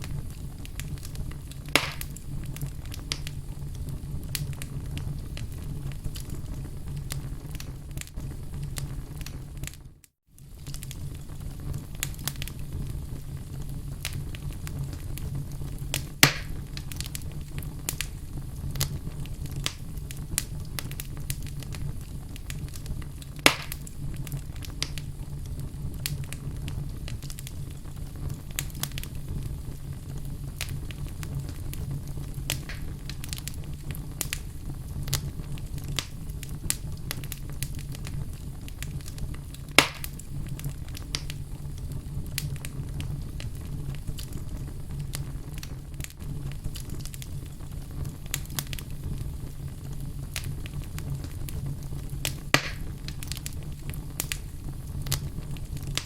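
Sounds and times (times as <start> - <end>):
loud sharp fire pops: 0.0 - 9.8, 10.4 - 56.0
wood fire crackling: 0.0 - 56.0.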